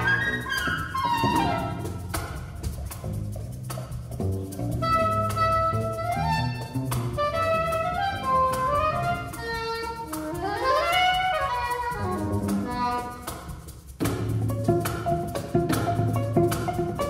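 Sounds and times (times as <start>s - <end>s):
hand drum strikes: 0.0s - 17.0s
low cello notes: 0.0s - 17.0s
reed instrument runs: 0.0s - 17.0s.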